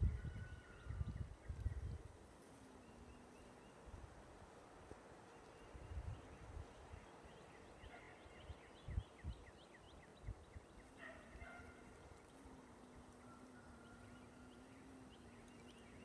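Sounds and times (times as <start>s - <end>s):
birds chirping: 0.0s - 4.0s, 5.2s - 16.0s.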